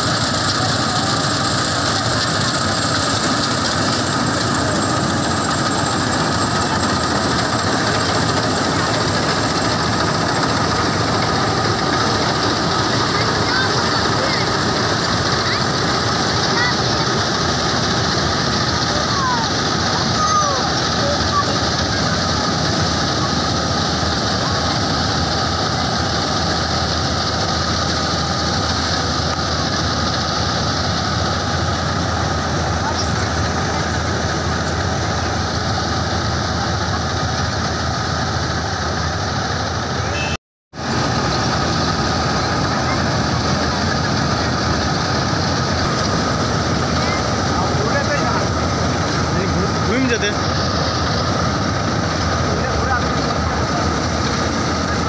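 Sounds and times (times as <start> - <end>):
combine harvester running: 0.0 - 55.0
steady whine: 0.0 - 55.0.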